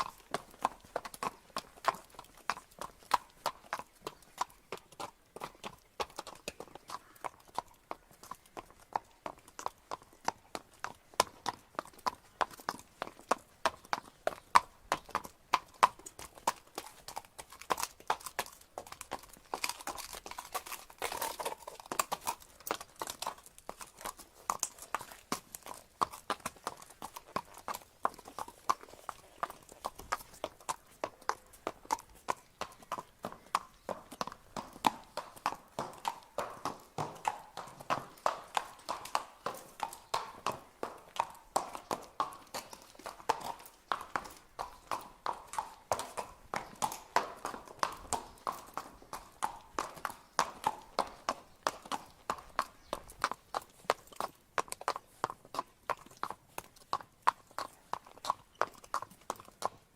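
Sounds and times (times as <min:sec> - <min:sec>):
horse hooves clip-clopping: 0:00.0 - 0:59.9.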